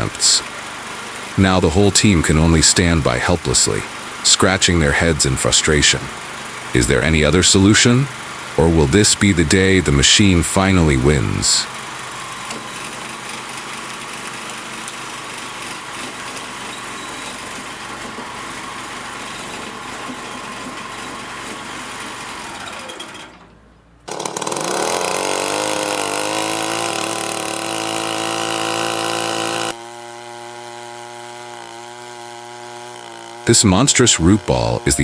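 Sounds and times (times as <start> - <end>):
engine drone: 0.0 - 35.0
noisy machine running: 0.0 - 35.0
motor revving to high whine: 3.6 - 23.3, 24.1 - 35.0.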